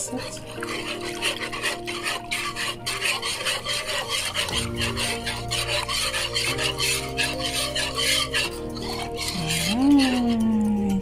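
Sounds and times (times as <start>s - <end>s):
wire whisk scraping pot: 0.0s - 11.0s.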